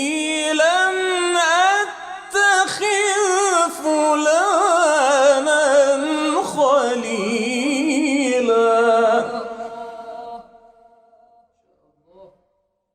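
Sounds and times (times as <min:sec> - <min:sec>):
man chanting melodically: 0:00.0 - 0:10.7.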